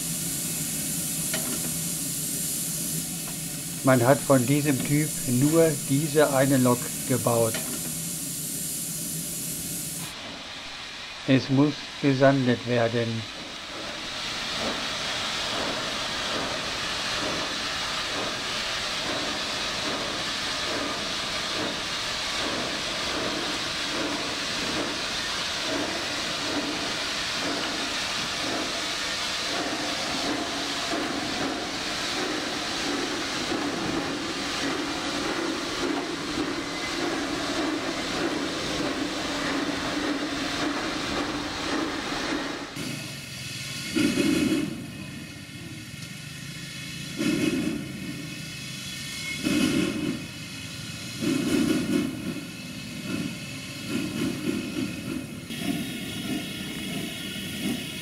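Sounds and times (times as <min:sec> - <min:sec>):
locomotive rumble: 0:00.0 - 0:58.0
steam hissing: 0:00.0 - 0:58.0
steam locomotive exhaust chuffs: 0:00.0 - 0:58.0.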